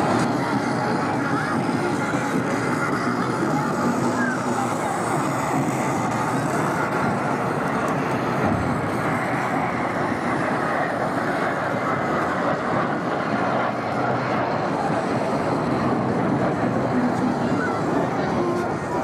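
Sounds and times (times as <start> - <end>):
jet engines passing overhead: 0.0 - 19.0.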